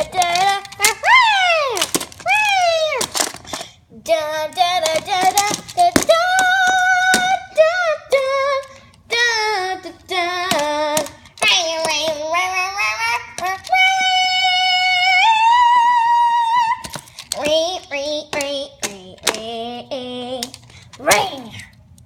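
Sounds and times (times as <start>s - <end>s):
child singing wordless tune: 0.0s - 3.1s, 3.9s - 21.7s.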